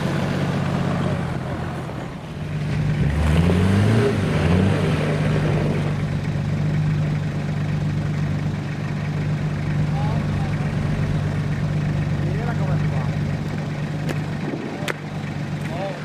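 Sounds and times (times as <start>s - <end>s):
van engine revving: 0.0s - 16.0s.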